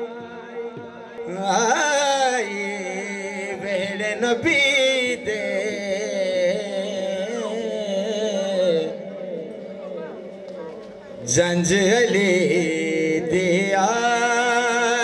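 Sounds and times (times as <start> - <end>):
man singing into a microphone: 0.0 - 10.5, 11.2 - 15.0.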